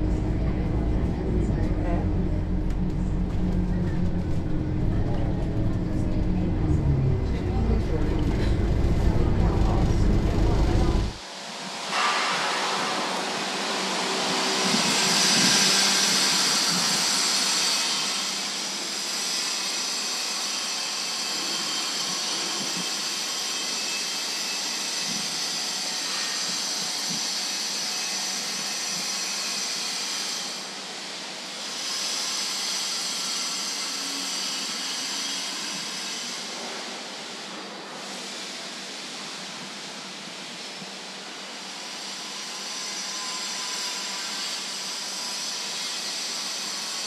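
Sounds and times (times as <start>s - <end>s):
urban transport rushing hiss: 0.0s - 47.0s.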